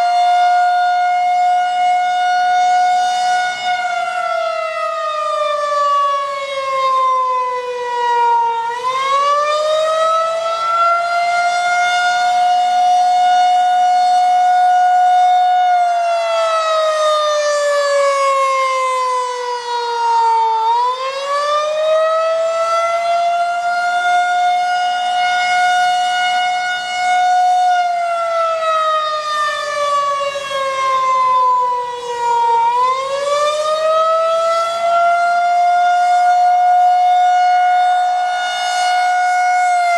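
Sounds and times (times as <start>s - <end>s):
rotating warning siren wailing: 0.0s - 39.9s.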